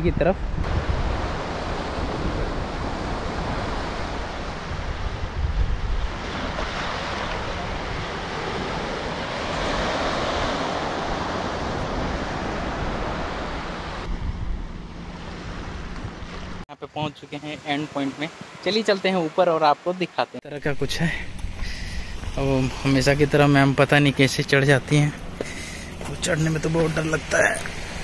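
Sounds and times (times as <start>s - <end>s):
wind buffeting microphone: 0.0s - 16.6s, 20.7s - 28.0s
waves washing up beach: 0.6s - 14.1s, 15.0s - 28.0s.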